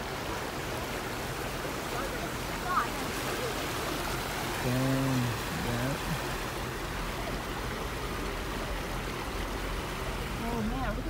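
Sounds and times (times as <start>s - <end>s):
water sloshing around car: 0.0s - 11.0s.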